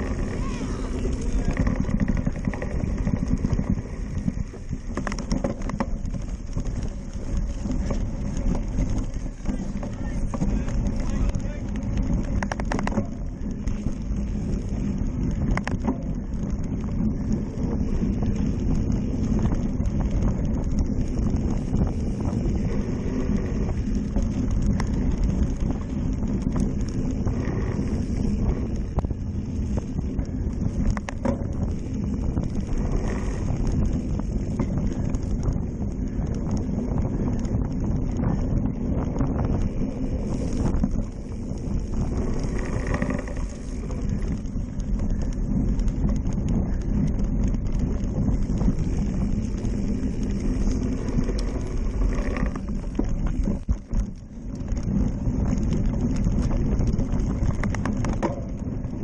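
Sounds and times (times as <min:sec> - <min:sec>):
tyres rolling on rough dirt: 0:00.0 - 0:59.0
wind buffeting camera: 0:00.0 - 0:59.0.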